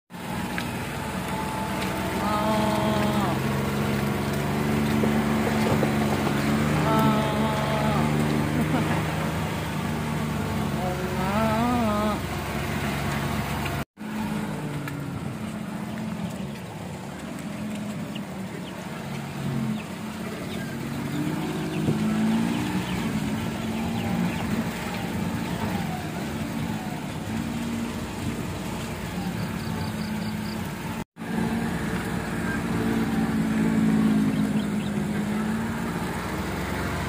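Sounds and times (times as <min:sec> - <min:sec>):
engine humming: 0:00.1 - 0:37.0.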